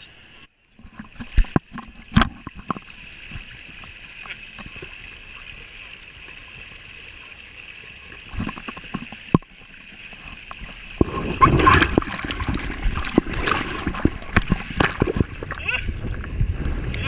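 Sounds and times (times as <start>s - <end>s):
water splashing and rushing: 0.0s - 17.0s.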